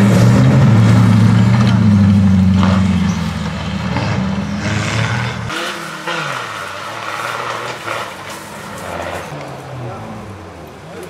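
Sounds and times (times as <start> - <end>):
off-road engine running under load: 0.0 - 11.0.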